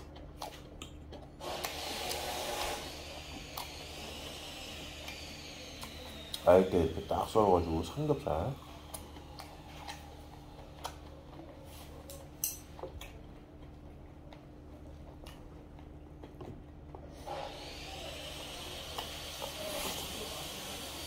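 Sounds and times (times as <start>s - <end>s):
chewing: 0.0s - 21.0s
steady low hum: 0.0s - 21.0s.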